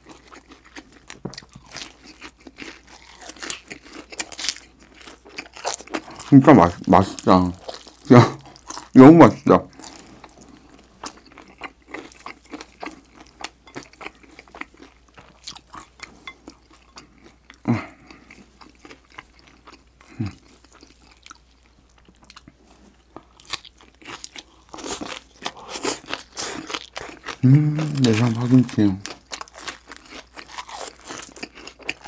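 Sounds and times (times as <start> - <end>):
chewing noodles: 0.0 - 9.0, 9.7 - 32.0.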